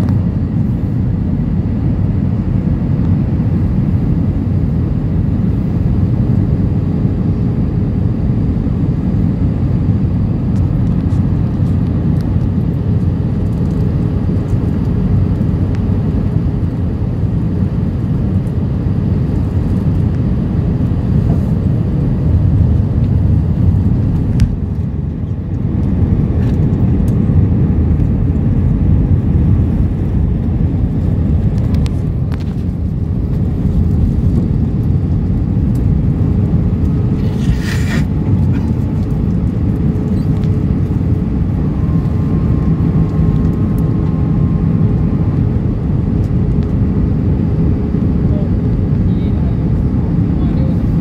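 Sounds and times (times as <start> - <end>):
airflow over fuselage: 0.0 - 51.0
low rumble of jet engines: 0.0 - 51.0.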